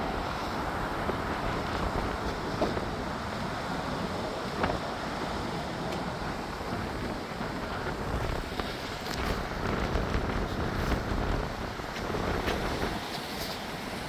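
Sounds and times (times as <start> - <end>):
road traffic passing: 0.0 - 14.0
wind rumbling on microphone: 0.0 - 14.0.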